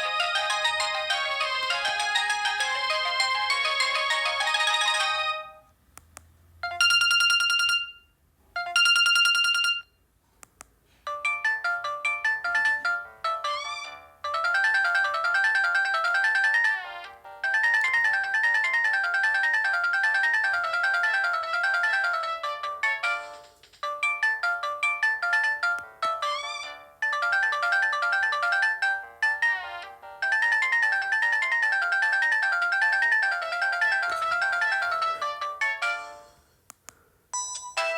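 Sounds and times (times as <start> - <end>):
mobile phone ringtone: 0.0 - 5.6, 6.6 - 10.0, 11.1 - 36.4, 37.4 - 37.9
quick electronic melody: 0.0 - 5.6, 11.1 - 36.3.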